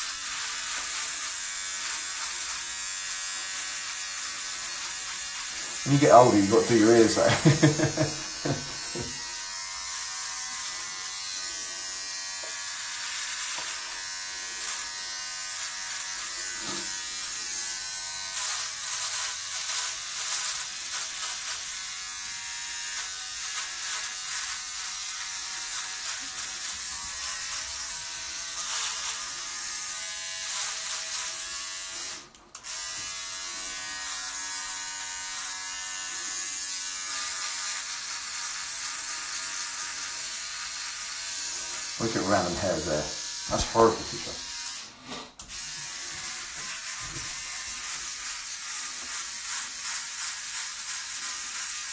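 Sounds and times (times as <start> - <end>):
electric hair trimmer buzzing: 0.0 - 51.9.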